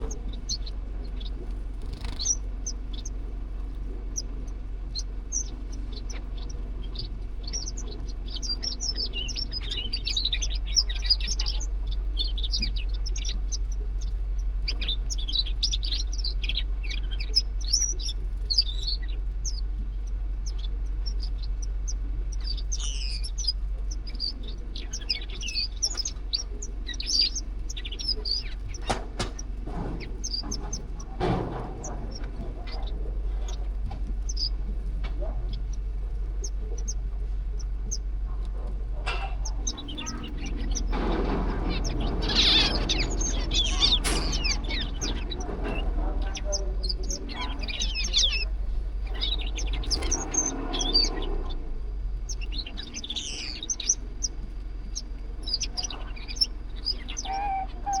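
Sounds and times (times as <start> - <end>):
finches chirping: 0.0 - 58.0
steady low hum: 0.0 - 58.0.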